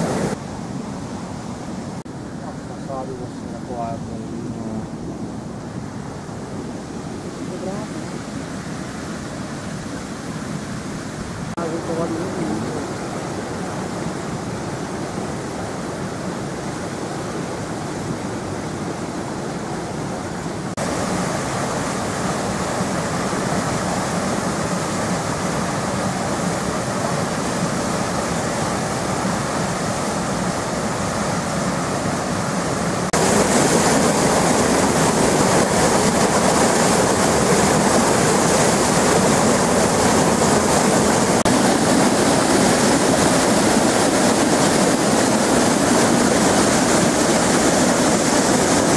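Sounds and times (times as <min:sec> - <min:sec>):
floodwater rushing over a plank: 0:00.0 - 0:00.5, 0:02.1 - 0:48.9.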